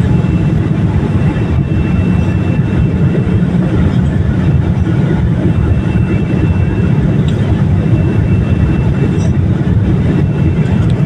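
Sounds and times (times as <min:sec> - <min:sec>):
faint high whine: 0:00.0 - 0:11.0
low rumble of engines and wheels: 0:00.0 - 0:11.0.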